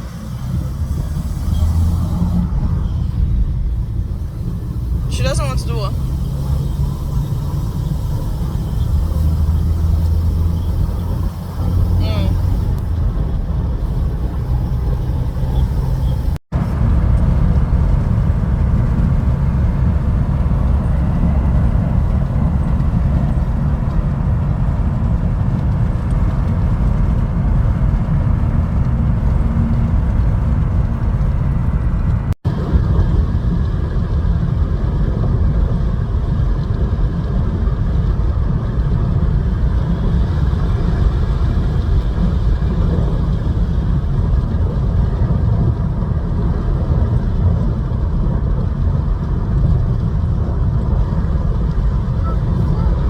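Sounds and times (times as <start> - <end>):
moving vehicle rumble: 0.0 - 53.0.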